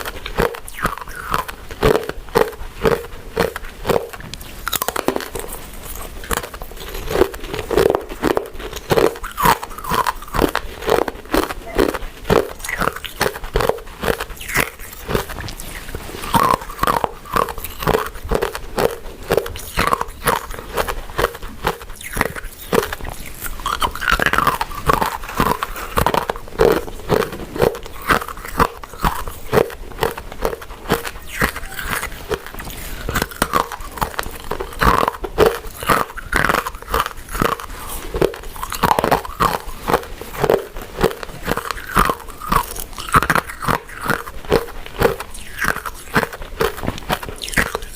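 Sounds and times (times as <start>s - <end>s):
chewing sticky food: 0.0s - 47.9s.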